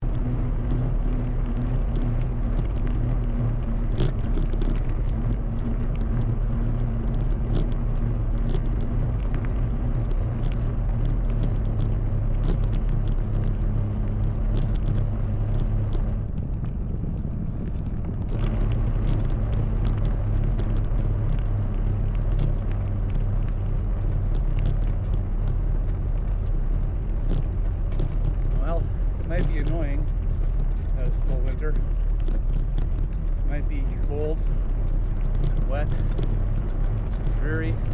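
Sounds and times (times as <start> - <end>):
bike tyres rumbling: 0.0 - 37.9
crunches on snow: 0.0 - 37.9.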